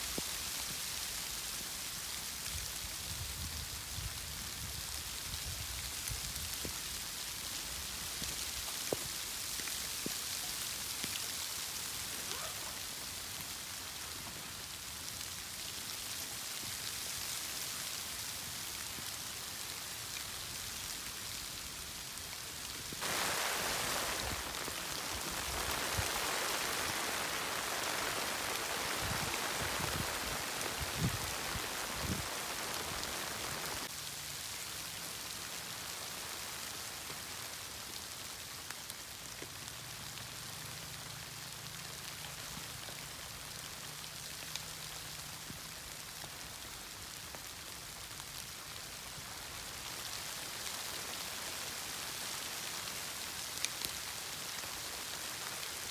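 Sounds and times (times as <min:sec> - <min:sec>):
rain hiss and patter: 0:00.0 - 0:55.9.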